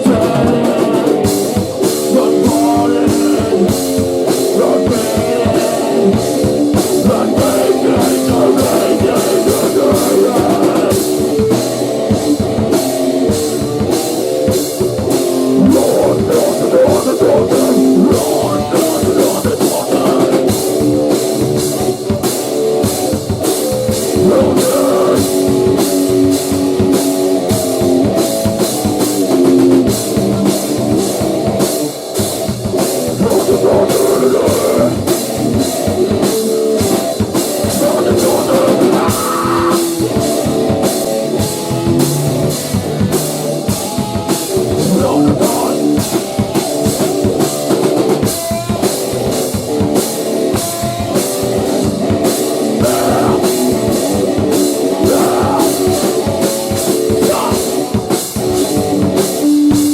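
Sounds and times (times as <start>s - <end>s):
drum kit cymbal beat: 0.0s - 59.9s
hardcore rock band playing: 0.0s - 59.9s.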